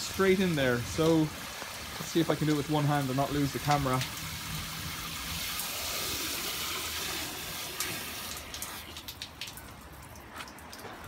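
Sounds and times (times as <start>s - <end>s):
water drips: 0.0s - 11.0s
water running and splashing: 0.0s - 11.0s.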